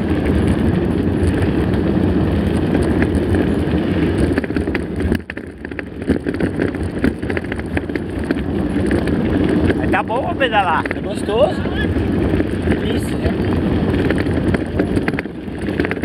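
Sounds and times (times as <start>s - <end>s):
bike knocks and rattles: 0.0s - 11.3s, 12.0s - 16.0s
tyres rumbling on loose stones: 0.0s - 16.0s
wind on microphone: 0.0s - 16.0s.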